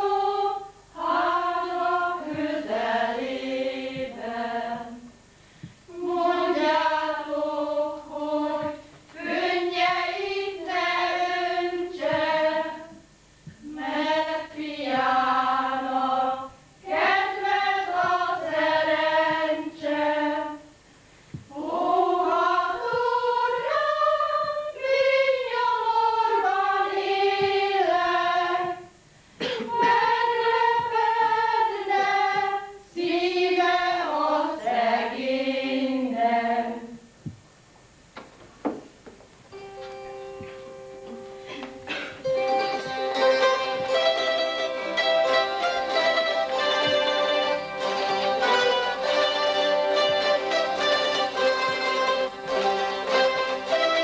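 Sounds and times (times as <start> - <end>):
choir singing: 0.0 - 5.2, 5.9 - 13.0, 13.6 - 20.8, 21.5 - 37.1, 41.9 - 54.0.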